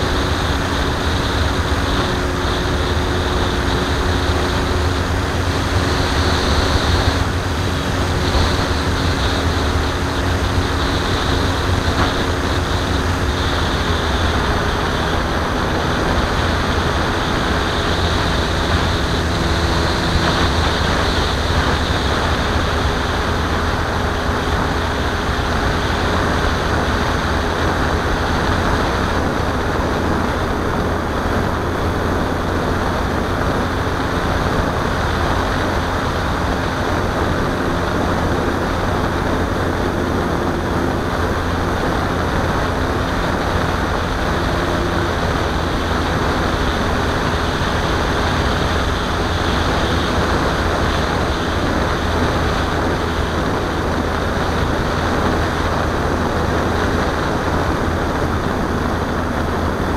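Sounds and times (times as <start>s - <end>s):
airflow rushing over microphone: 0.0s - 59.9s
model plane motor humming: 0.0s - 59.9s.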